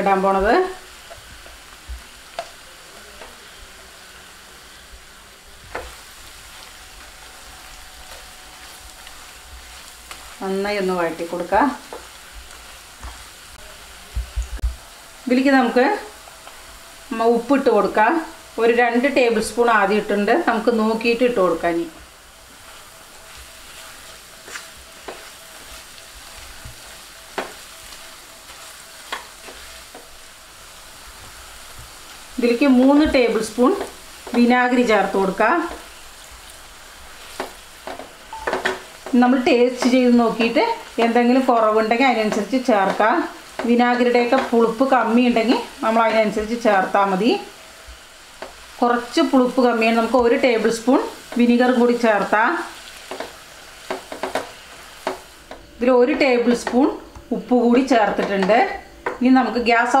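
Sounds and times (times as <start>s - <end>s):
food sizzling in oil: 0.0s - 60.0s.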